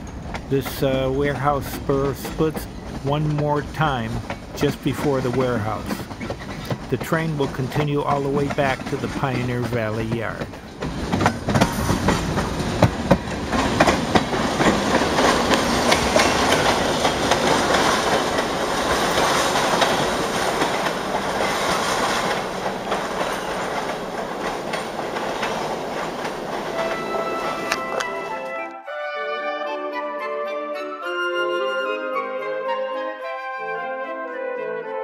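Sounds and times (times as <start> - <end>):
wheels clacking over rail joints: 0.0 - 28.4
freight train running noise: 0.0 - 28.6.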